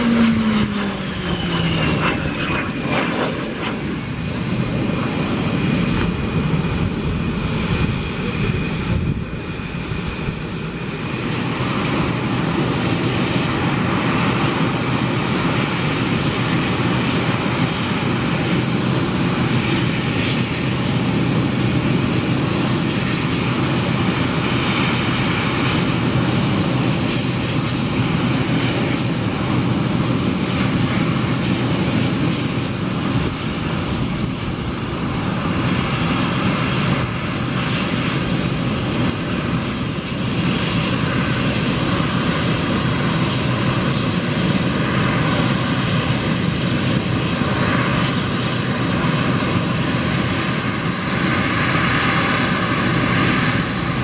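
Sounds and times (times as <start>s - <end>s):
broad rush of jet noise: 0.0s - 54.0s
jet engine high whine: 0.0s - 54.0s.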